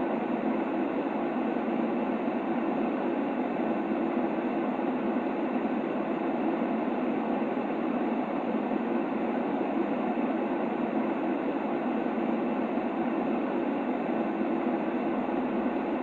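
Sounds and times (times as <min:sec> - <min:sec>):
muffled white noise: 0:00.0 - 0:16.0.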